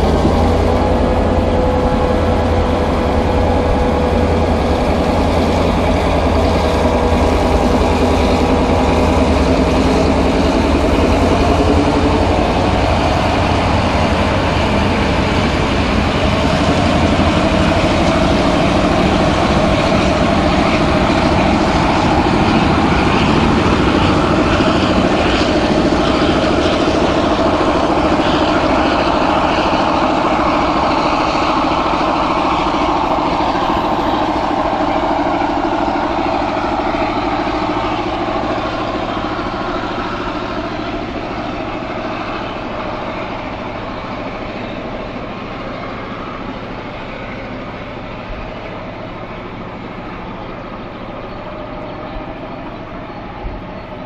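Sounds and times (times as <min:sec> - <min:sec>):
carriages rumbling on rails: 0:00.0 - 0:54.0
diesel locomotive engine running hard: 0:00.0 - 0:54.0.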